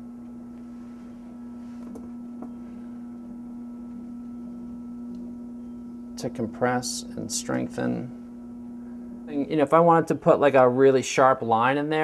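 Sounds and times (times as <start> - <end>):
potter's wheel motor humming: 0.0 - 11.7.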